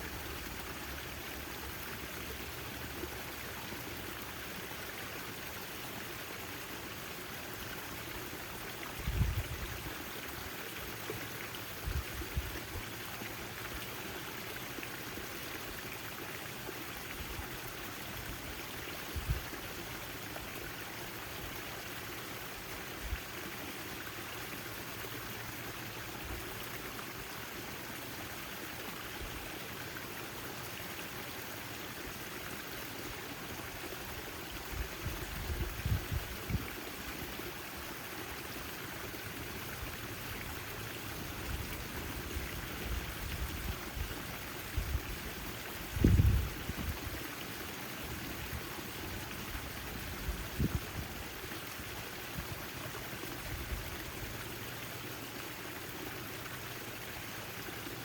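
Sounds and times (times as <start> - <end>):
garden fountain splashing: 0.0 - 58.0.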